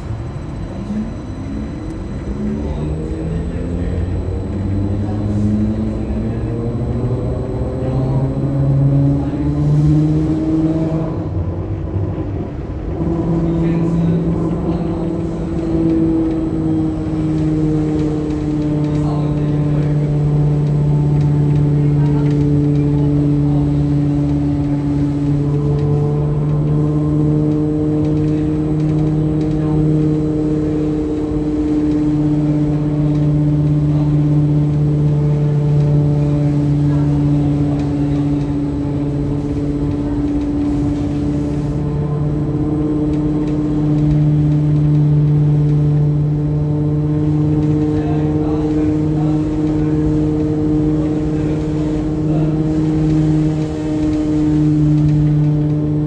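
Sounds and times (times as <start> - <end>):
tram electric hum: 0.0 - 56.0.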